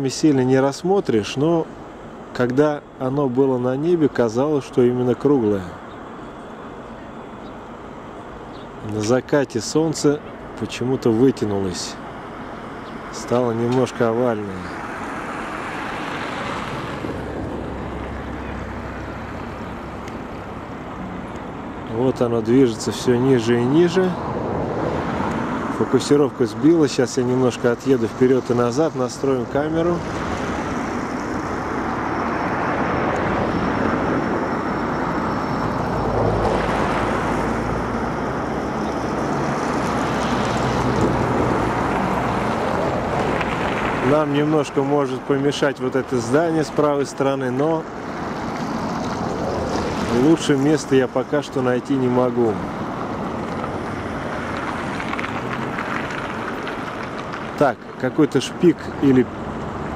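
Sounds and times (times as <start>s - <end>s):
passing vehicle tyre hiss: 11.5s - 59.9s.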